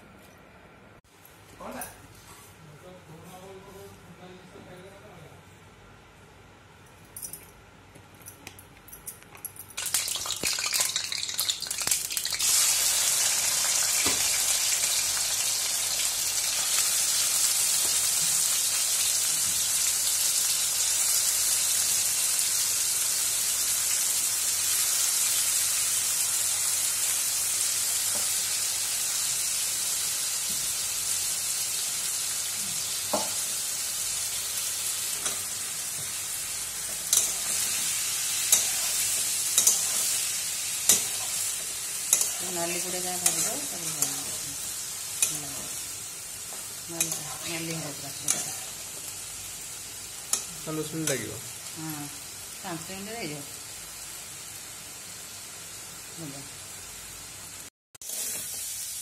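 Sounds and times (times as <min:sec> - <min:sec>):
prawns sizzling in hot oil: 0:09.8 - 0:59.0.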